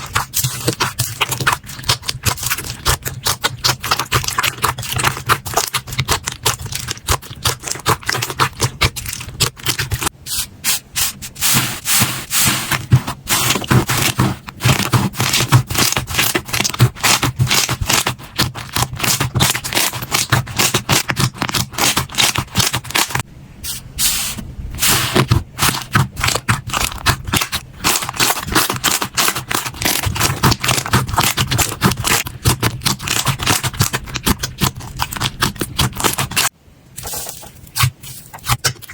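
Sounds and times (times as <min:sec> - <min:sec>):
hands squeezing slime: 0:00.0 - 0:23.2, 0:24.8 - 0:38.9.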